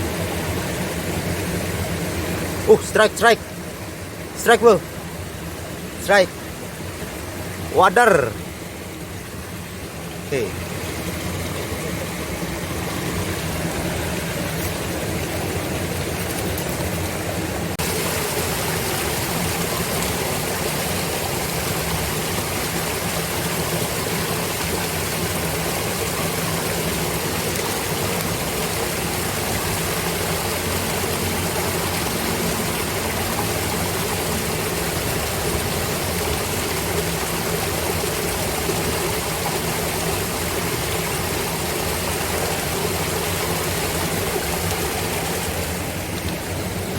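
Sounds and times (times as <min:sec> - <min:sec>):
flowing water rushing: 0:00.0 - 0:46.9.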